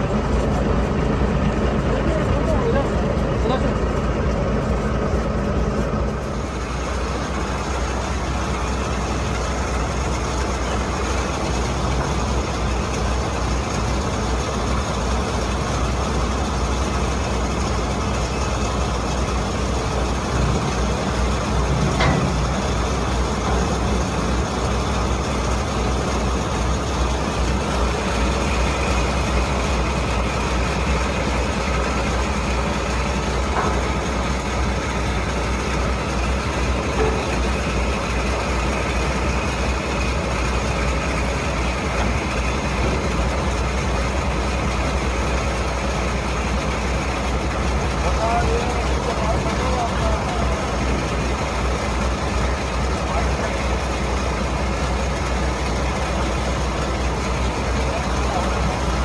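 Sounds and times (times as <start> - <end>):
boat engine droning: 0.0 - 59.0
water wash: 0.0 - 59.0.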